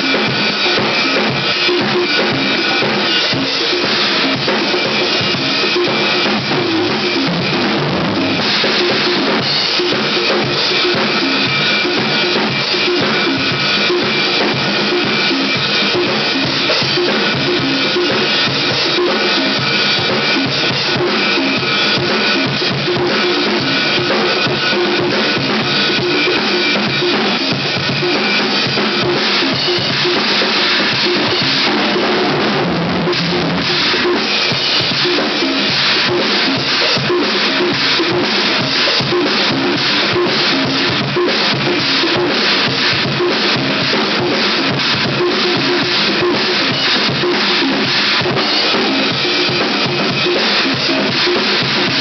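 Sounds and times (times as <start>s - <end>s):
conga struck by hand: 0.0s - 52.0s
drum kit playing a groove: 0.0s - 52.0s.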